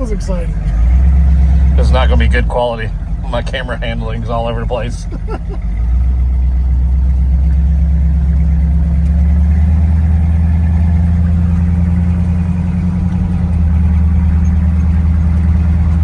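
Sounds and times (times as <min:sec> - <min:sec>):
pickup truck engine droning: 0:00.0 - 0:16.0.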